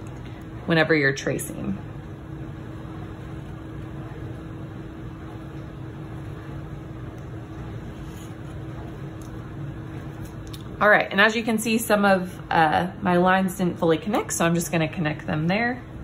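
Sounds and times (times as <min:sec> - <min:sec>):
room noise hum and hiss: 0:00.0 - 0:16.0.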